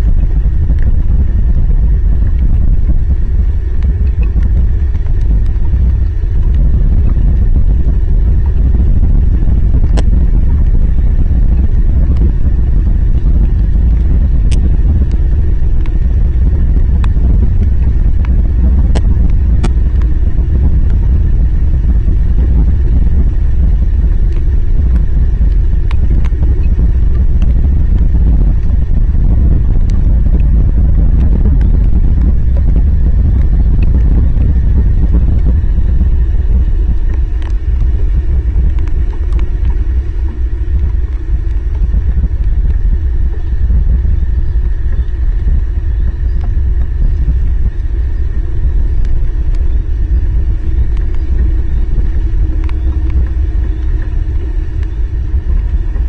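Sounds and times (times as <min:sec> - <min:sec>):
heavy rain on microphone: 0:00.0 - 0:56.0.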